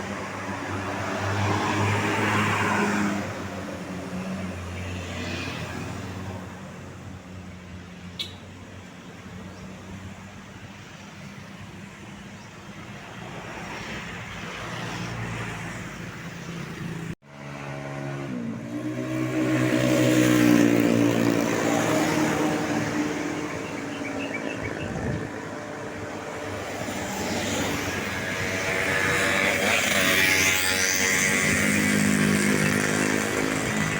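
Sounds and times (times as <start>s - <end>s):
road traffic: 0.0s - 33.9s.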